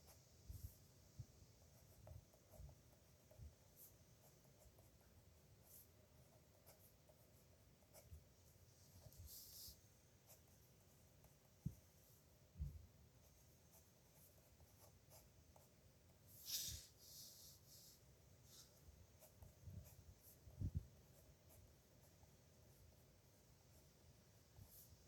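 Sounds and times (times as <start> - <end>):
pen scratching on paper: 1.6 - 12.2, 13.7 - 25.0.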